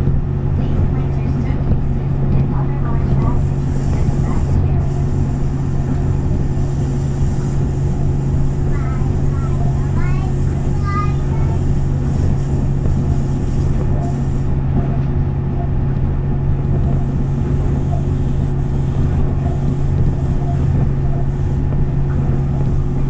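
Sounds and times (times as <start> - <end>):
monorail train low drone: 0.0 - 23.0.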